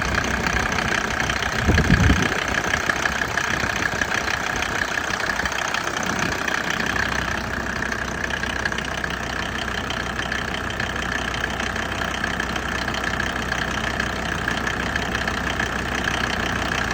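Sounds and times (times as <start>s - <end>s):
diesel engine idling with knocking: 0.0s - 16.9s.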